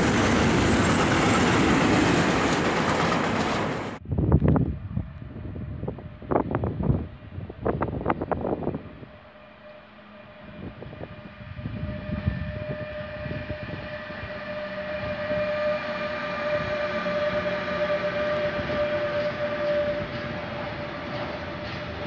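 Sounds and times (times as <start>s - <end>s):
electric locomotive whine: 0.0s - 22.0s
rumble of train wheels: 0.0s - 22.0s
wind gusts on microphone: 2.6s - 9.2s, 10.4s - 22.0s.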